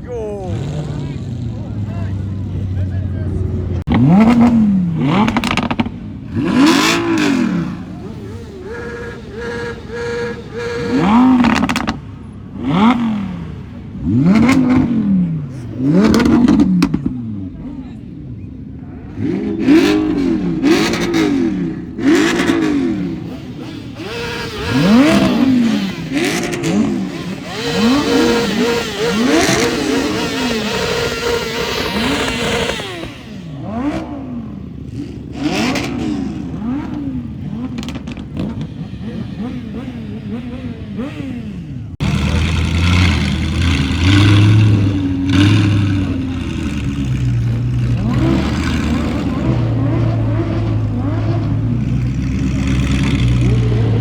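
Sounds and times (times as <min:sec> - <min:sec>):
car engine revving in blips: 0:00.0 - 0:54.0
voices: 0:00.0 - 0:54.0.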